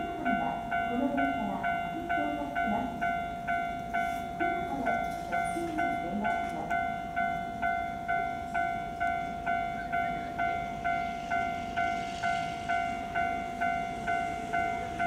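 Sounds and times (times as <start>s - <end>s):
level-crossing bell ringing: 0.0s - 15.0s.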